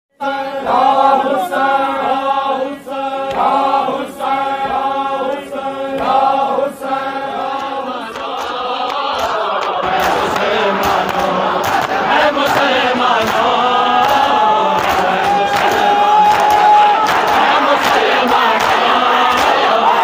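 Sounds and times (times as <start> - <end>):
voices chanting a lament: 0.1 - 20.0.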